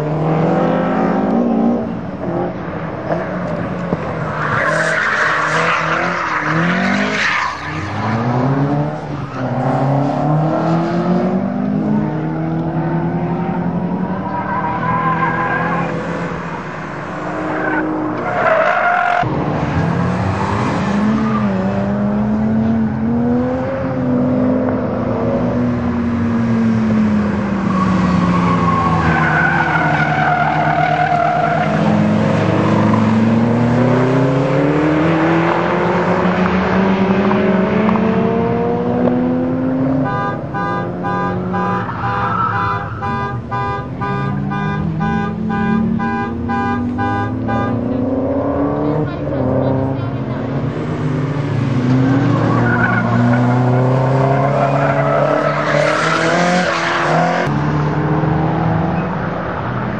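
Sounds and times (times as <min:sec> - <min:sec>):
car engine revving: 0:00.0 - 0:59.5.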